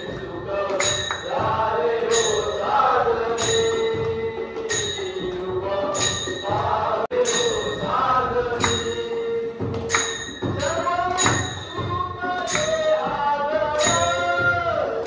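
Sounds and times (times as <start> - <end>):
drum: 0.0 - 15.0
hand cymbals: 0.0 - 15.0
men singing in chorus: 0.0 - 15.0.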